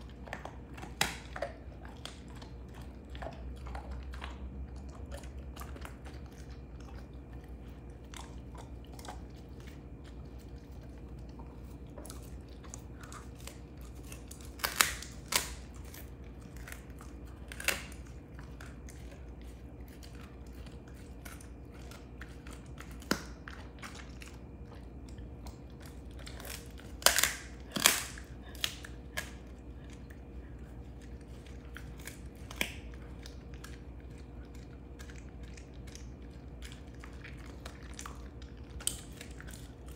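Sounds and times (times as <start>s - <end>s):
dog chewing bone: 0.0s - 39.9s.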